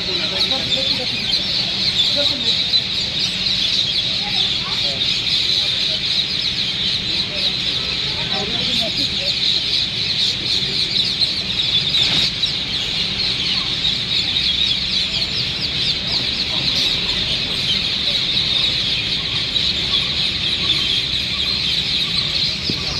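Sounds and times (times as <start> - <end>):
flock of parrots calling: 0.0 - 22.9.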